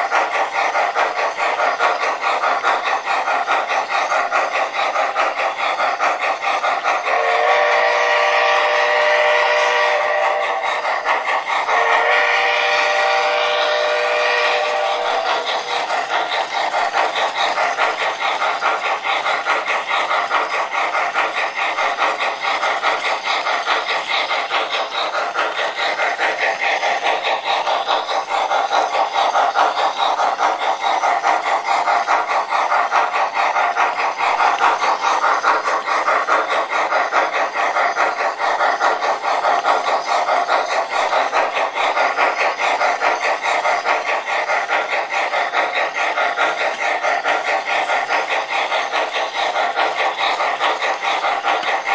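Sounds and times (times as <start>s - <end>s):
model train wheels rolling: 0.0s - 51.9s
raspy steam chuffing: 0.0s - 51.9s.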